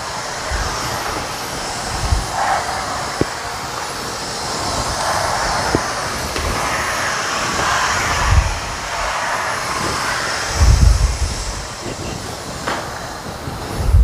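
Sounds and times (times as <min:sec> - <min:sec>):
steam mop hissing: 0:00.0 - 0:14.0.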